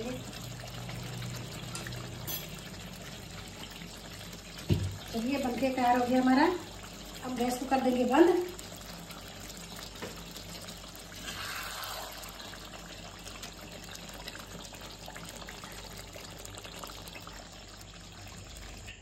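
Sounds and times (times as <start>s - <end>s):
curry bubbling and sizzling: 0.0s - 19.0s.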